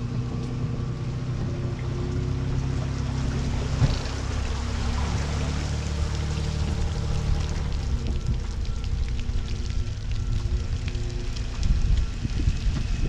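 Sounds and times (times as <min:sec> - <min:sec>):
outboard motor running: 0:00.0 - 0:13.0
water rushing alongside boat: 0:00.2 - 0:13.0.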